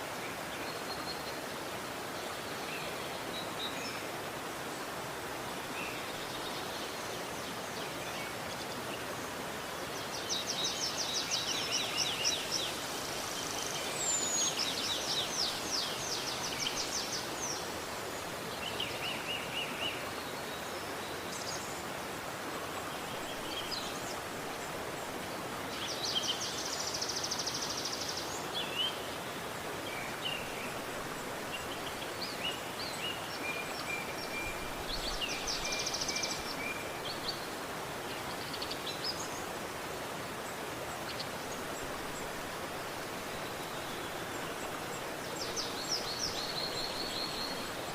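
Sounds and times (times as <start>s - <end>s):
river rushing: 0.0s - 47.9s
songbirds trilling and chirping: 5.5s - 47.9s.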